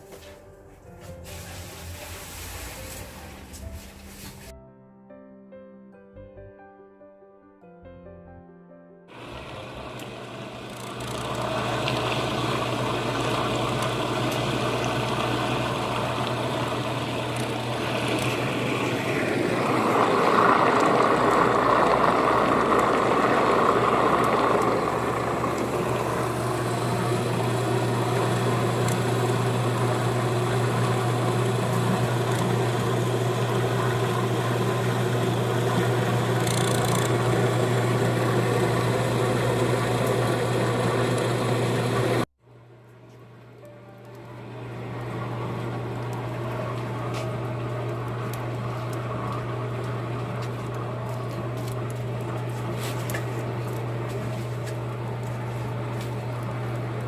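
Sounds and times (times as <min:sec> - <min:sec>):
machine humming and whirring: 0:09.1 - 0:57.0.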